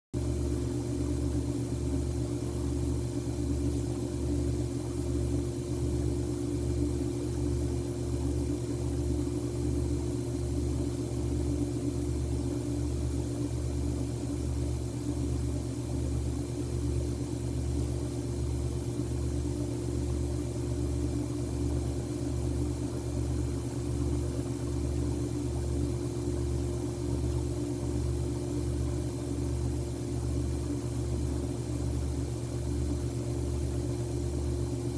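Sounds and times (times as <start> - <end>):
low mechanical hum throbbing: 0.2 - 34.9.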